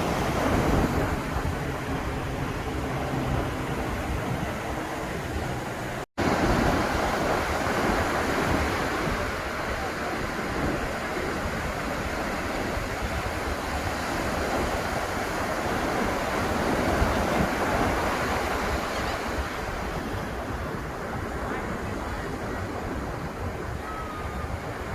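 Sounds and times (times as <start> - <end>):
ocean surf washing onto beach: 0.0 - 24.9.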